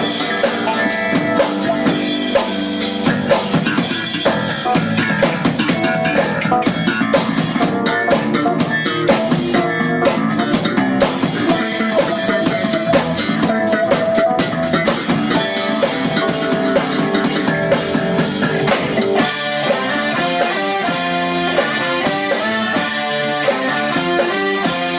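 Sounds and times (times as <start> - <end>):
drum kit: 0.0 - 24.9
electric guitar: 0.0 - 24.9.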